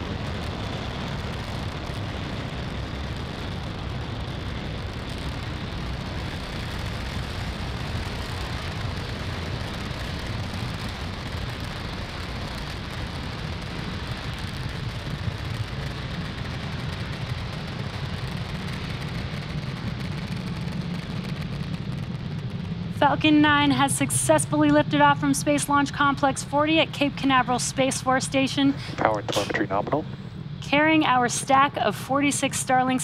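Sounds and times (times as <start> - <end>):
rocket engines rumbling: 0.0 - 33.0.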